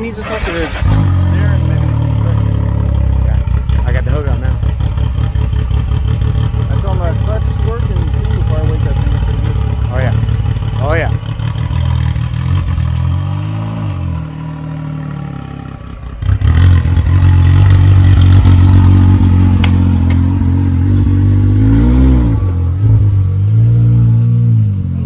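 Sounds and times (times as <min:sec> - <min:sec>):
engine running at low revs: 0:00.1 - 0:25.0.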